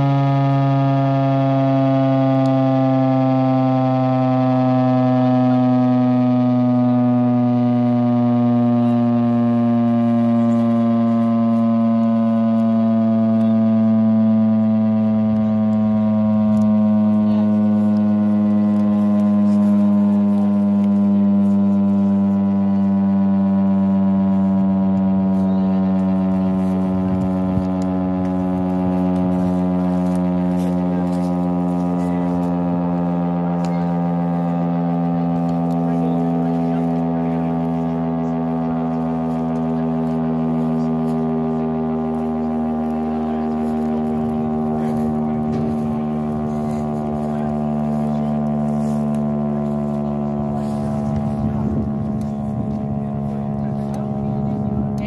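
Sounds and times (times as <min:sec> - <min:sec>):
siren low tone sinking in pitch: 0:00.0 - 0:55.0.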